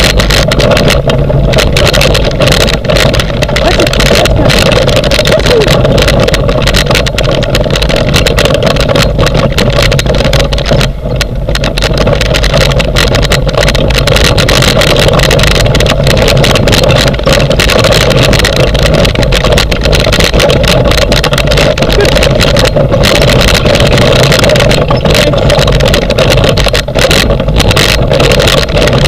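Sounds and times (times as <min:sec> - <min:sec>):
rig rolling over rough grass: 0:00.0 - 0:29.0.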